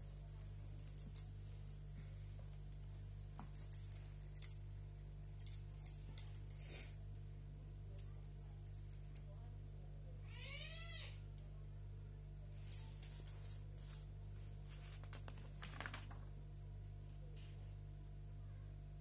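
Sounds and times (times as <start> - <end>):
steady low hum: 0.0 - 10.3, 11.1 - 19.0.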